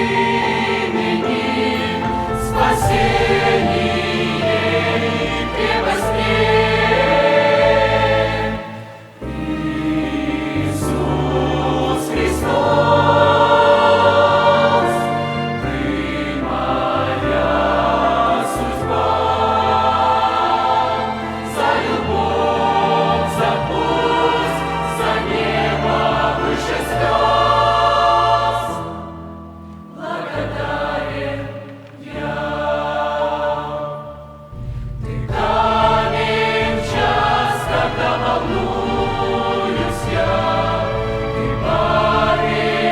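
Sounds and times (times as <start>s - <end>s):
choir singing worship song: 0.0s - 42.9s
musical accompaniment: 0.0s - 42.9s.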